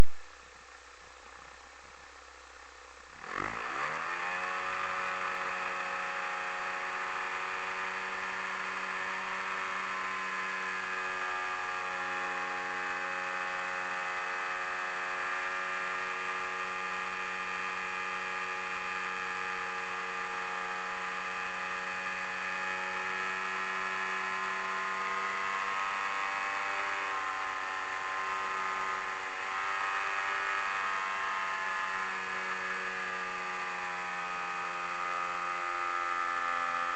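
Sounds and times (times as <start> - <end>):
model plane engine running: 0.0 - 36.9.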